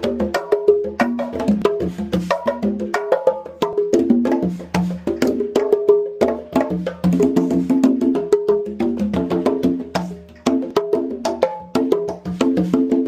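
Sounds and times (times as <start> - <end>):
conga drums played by hand: 0.0 - 13.0.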